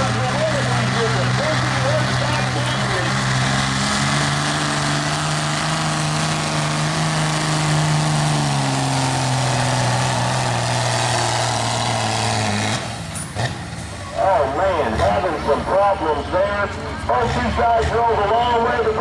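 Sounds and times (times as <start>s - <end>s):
diesel engine at high revs: 0.0s - 19.0s.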